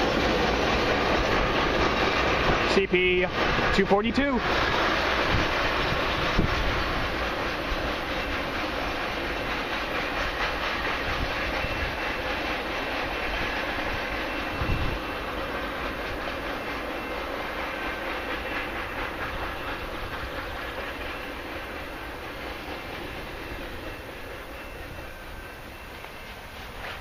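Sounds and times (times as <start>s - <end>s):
freight train rumble and wheel clatter: 0.0s - 27.0s.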